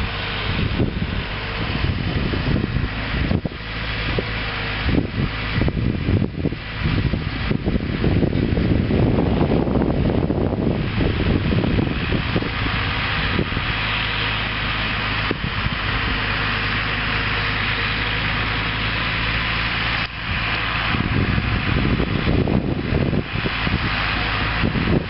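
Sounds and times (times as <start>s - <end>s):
tractor engine drone: 0.0s - 25.0s.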